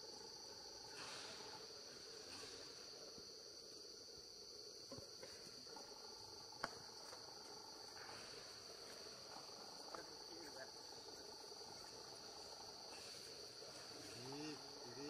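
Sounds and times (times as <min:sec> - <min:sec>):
insects droning in chorus: 0:00.0 - 0:15.0.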